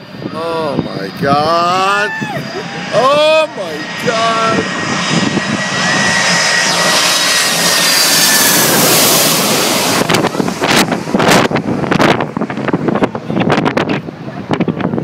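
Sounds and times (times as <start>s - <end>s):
jet engines roaring overhead: 0.0s - 15.0s
wind buffeting microphone: 0.0s - 15.0s.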